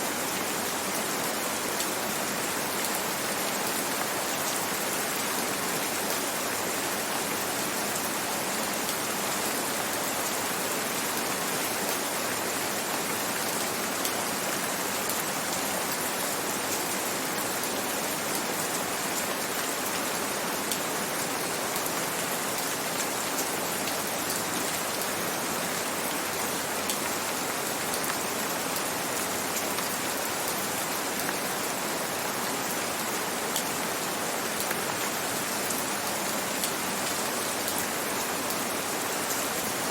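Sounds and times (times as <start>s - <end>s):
gentle rain hiss: 0.0s - 39.9s.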